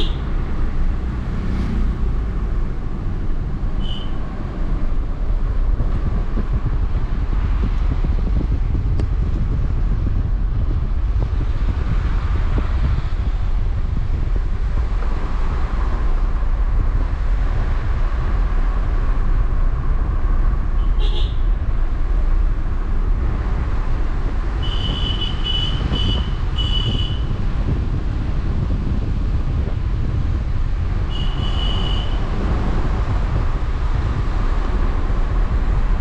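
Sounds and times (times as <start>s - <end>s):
road and tyre noise: 0.0s - 36.0s.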